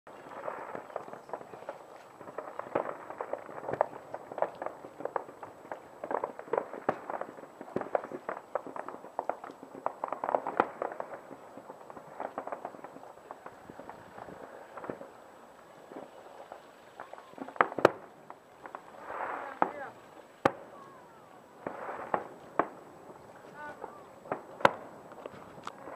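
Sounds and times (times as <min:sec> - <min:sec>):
fireworks popping and crackling: 0:00.1 - 0:25.9.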